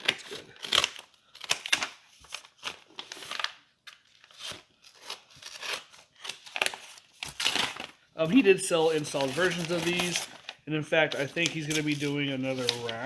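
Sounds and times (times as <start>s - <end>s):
paper wrapping crinkling and tearing: 0.0s - 13.0s.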